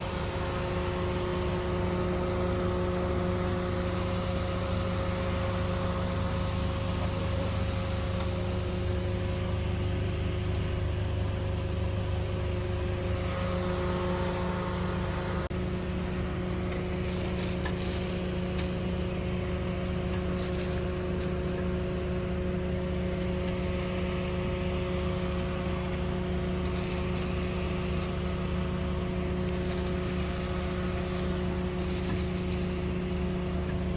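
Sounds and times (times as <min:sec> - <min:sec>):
low mechanical hum: 0:00.0 - 0:33.9.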